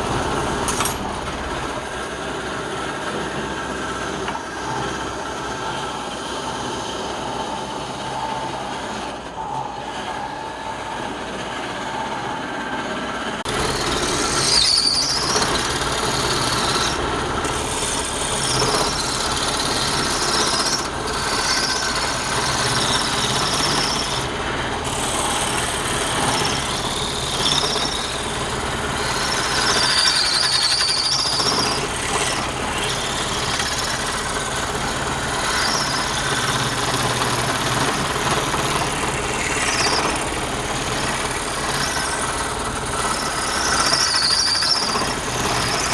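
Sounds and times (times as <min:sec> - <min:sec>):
high whines of tool: 0:00.0 - 0:45.9
wood lathe cutting wood: 0:00.0 - 0:45.9.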